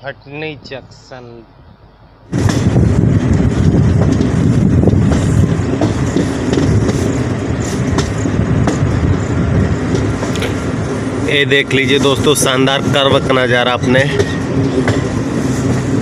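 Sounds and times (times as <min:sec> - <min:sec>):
train wheels rumbling on rail: 0:01.2 - 0:16.0
wheels clicking over rail joints: 0:02.4 - 0:16.0.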